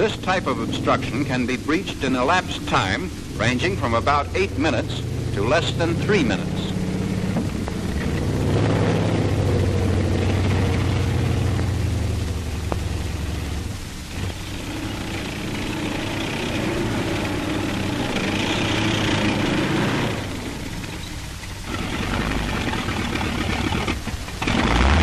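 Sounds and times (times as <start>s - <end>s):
tank engine running: 0.0s - 25.0s.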